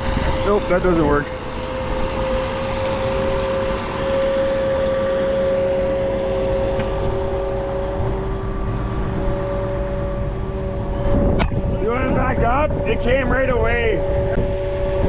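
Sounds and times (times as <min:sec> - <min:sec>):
lower tone: 0:00.0 - 0:15.0
steady whine: 0:00.0 - 0:15.0
tractor engine running: 0:00.0 - 0:15.0.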